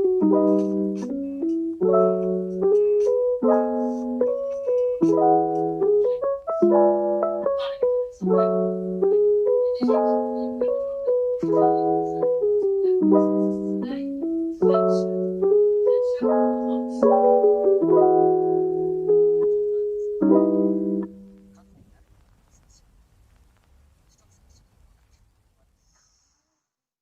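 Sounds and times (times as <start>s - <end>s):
lo-fi electric piano music: 0.0s - 21.8s.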